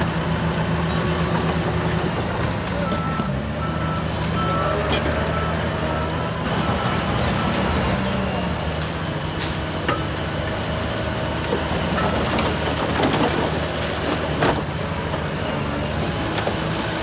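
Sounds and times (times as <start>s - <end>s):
diesel engine of heavy machinery: 0.0s - 17.0s.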